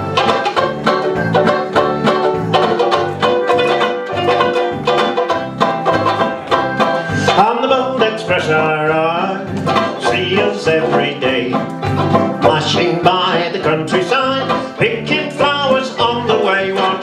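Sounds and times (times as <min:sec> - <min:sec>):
strummed banjo-like chords: 0:00.0 - 0:17.0.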